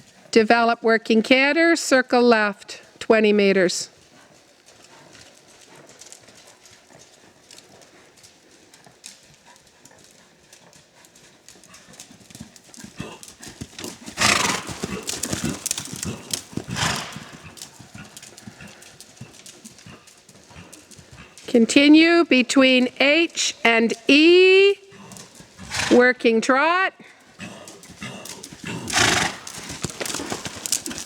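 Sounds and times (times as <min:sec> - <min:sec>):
horse hoofbeats cantering: 0:00.0 - 0:31.0.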